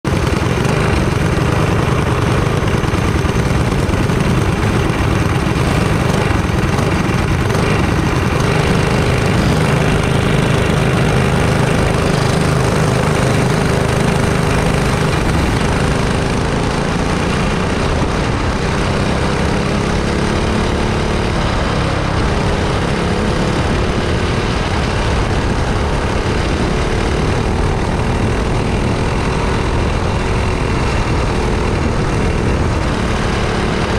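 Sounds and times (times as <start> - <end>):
small racing engines running: 0.0 - 33.9.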